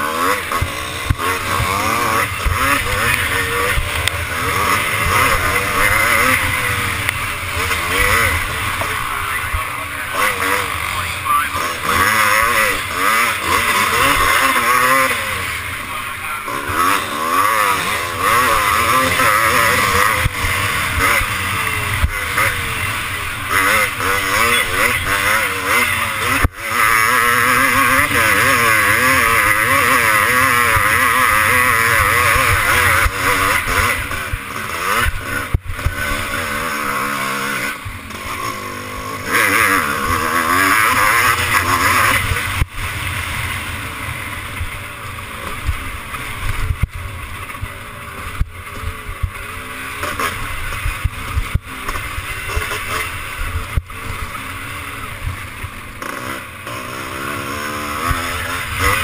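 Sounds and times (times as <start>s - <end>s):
motorcycle engine revving: 0.0s - 59.0s
steady rush of noise: 0.0s - 59.0s.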